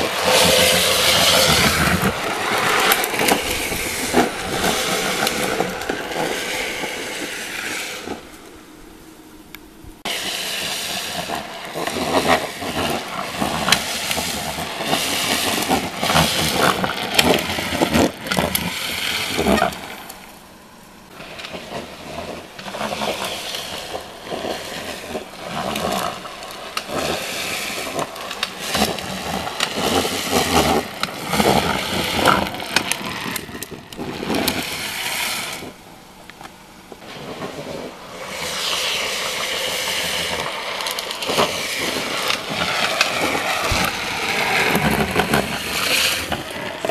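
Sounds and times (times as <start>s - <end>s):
wheels scraping on asphalt: 0.0s - 46.9s.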